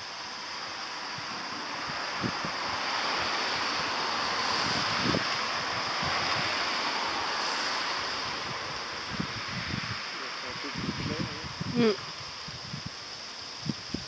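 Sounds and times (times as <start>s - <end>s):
rain falling: 0.0s - 14.0s
wind gusts buffeting microphone: 0.3s - 14.0s.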